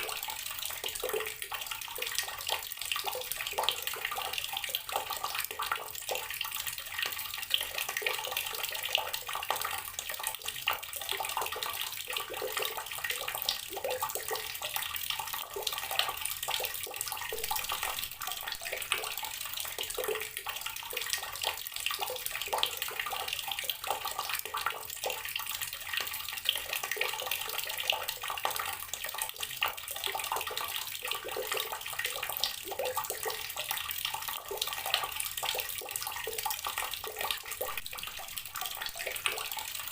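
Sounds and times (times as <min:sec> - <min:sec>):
water running from tap: 0:00.0 - 0:39.9.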